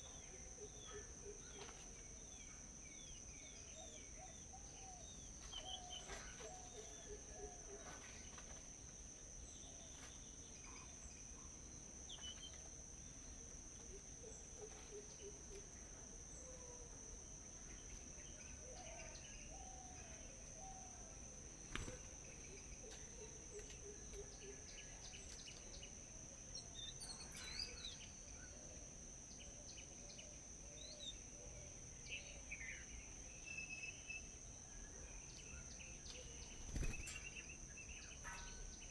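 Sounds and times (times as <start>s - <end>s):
insect drone: 0.0s - 38.9s.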